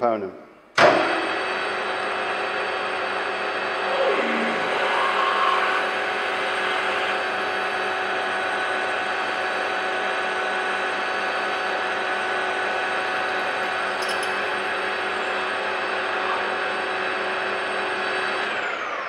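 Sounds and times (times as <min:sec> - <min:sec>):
lathe gear-driven hum: 0:01.4 - 0:19.0.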